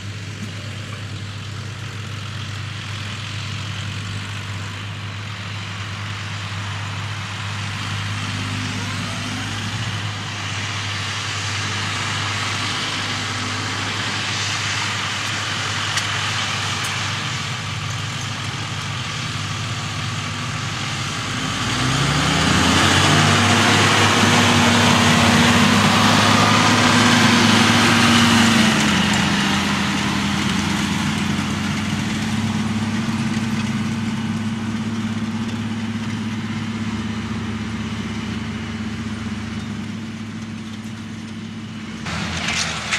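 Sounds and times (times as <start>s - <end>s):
tractor engine working: 0.0s - 42.9s.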